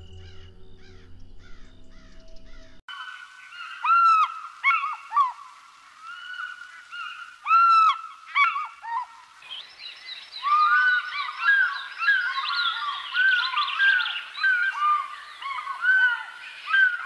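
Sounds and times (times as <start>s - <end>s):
bird calls rising and falling: 0.0s - 17.0s
flock of birds calling: 0.0s - 17.0s.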